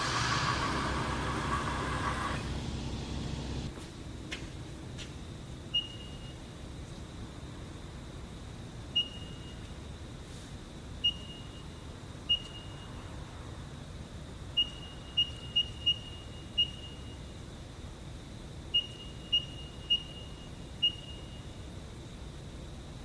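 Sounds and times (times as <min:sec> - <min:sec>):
faint electrical hum: 0:00.0 - 0:23.0.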